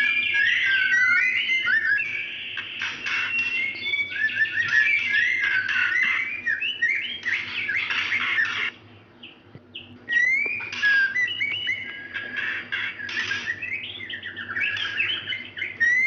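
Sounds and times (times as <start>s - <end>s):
bird chattering and whistling: 0.0s - 16.0s.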